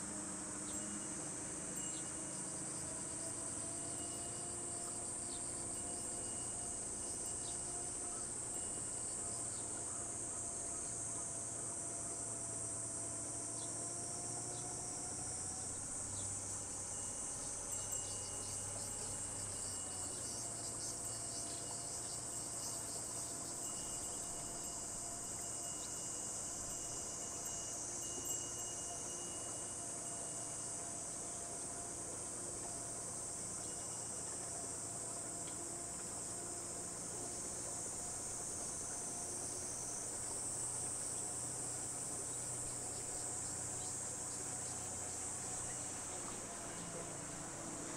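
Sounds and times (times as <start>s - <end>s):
cicadas chorus: 0.0s - 47.9s
faint boat motor hum: 0.0s - 47.9s.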